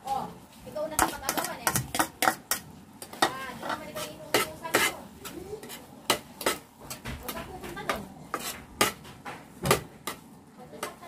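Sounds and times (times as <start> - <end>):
spatula scraping frying pan: 0.8 - 11.0.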